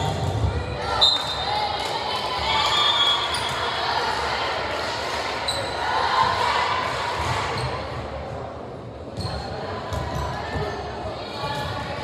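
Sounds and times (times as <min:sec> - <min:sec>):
voices echoing in a gym: 0:00.0 - 0:12.0.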